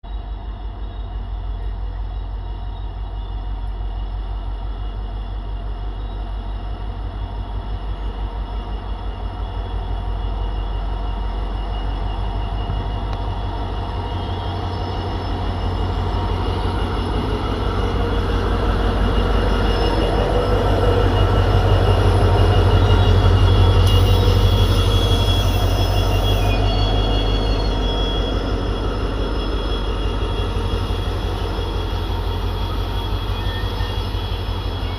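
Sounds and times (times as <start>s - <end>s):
diesel locomotive engine throbbing: 0.1s - 34.9s.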